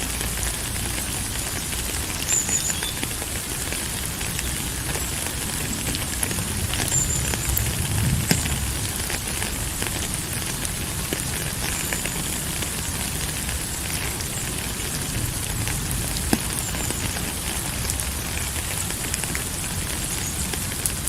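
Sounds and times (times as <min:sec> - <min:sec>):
rain drops ticking: 0:00.0 - 0:21.0
steady rain falling: 0:00.0 - 0:21.0.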